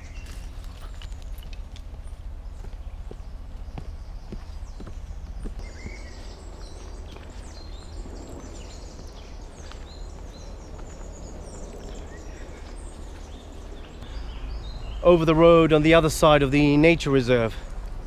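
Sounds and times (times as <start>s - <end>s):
wind rumble on microphone: 0.0s - 15.0s
small birds chirping and trilling: 0.0s - 18.0s.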